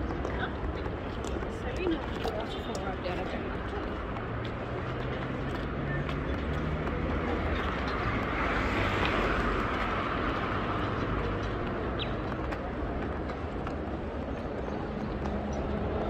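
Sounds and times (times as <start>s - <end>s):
hum of street traffic: 0.0s - 16.0s.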